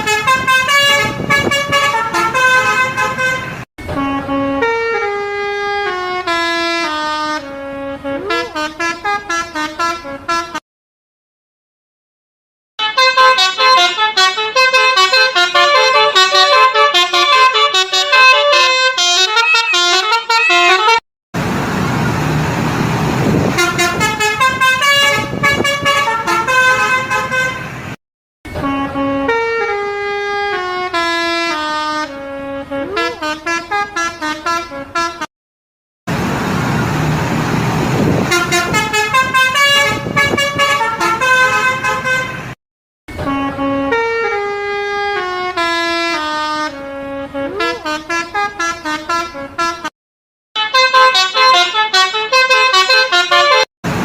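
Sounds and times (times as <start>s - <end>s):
musical bus horns: 0.0s - 10.6s, 12.8s - 21.0s, 23.2s - 35.3s, 36.1s - 49.9s, 50.6s - 54.0s.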